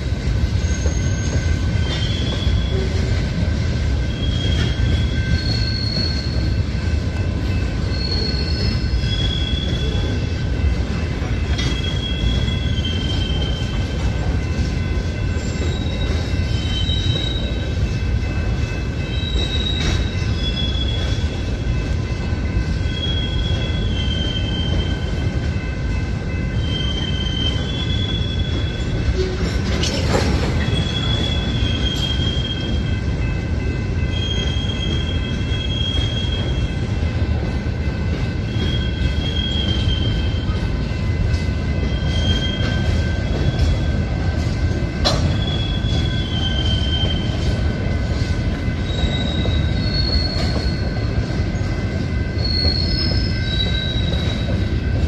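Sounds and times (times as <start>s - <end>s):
high wheel squeals: 0.0s - 21.5s, 22.4s - 25.7s, 26.3s - 33.3s, 34.0s - 37.4s, 38.3s - 44.4s, 45.0s - 55.0s
wheels rumbling on rail: 0.0s - 55.0s.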